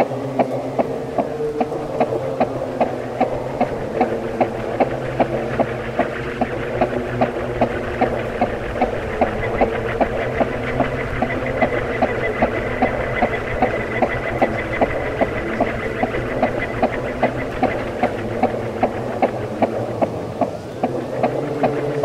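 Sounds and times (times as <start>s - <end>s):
ceiling fan humming: 0.0s - 22.0s
faint high whine: 0.0s - 22.0s
fan ticking: 0.0s - 22.0s.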